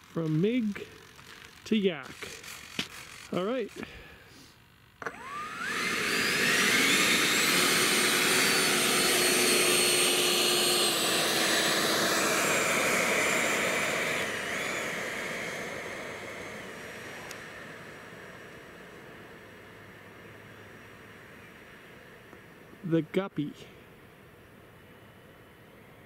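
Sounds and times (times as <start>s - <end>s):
electric ducted fan whine: 0.0s - 26.0s.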